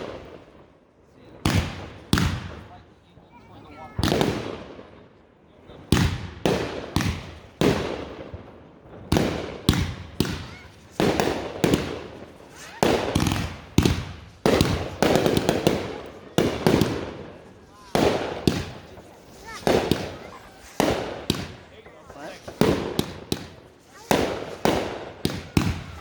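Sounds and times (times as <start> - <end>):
fireworks bangs with echo: 0.0 - 26.0.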